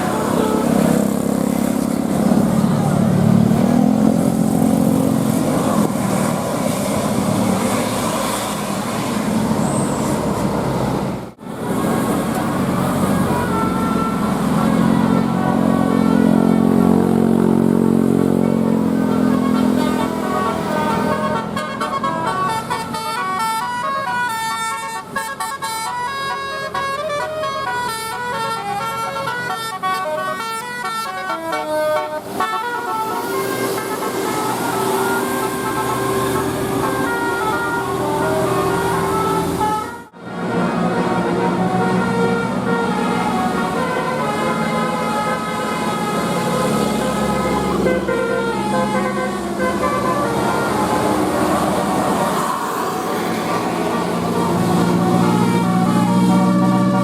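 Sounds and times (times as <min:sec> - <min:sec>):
musical air horn melody: 0:00.0 - 0:01.1, 0:11.4 - 0:17.6, 0:18.3 - 0:57.0
heavy vehicle passing: 0:00.0 - 0:57.0.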